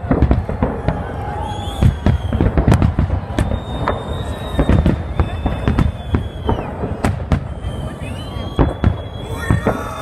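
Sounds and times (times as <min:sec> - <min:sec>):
firework shells bursting: 0:00.0 - 0:10.0
high whistle: 0:01.2 - 0:10.0.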